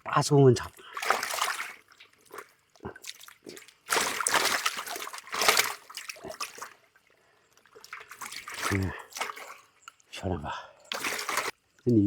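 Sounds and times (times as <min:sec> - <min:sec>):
fish splashing in water: 0:00.7 - 0:10.0, 0:10.9 - 0:11.6.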